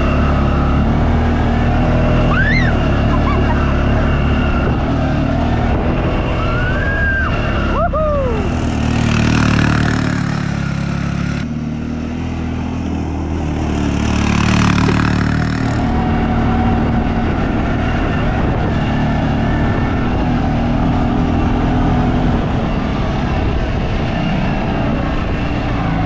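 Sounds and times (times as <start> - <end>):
off-road vehicle engines: 0.0 - 26.0.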